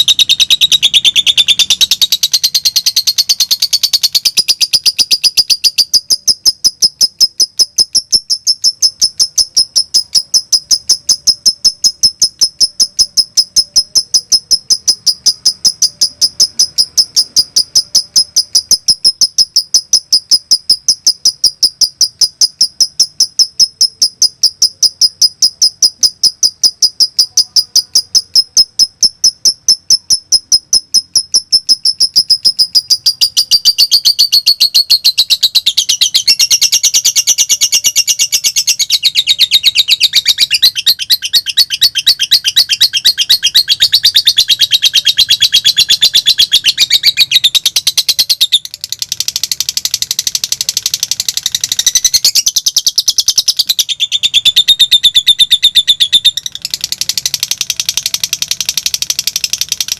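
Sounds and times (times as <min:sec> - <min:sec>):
lovebird rapid high chirps: 0:00.0 - 0:59.9.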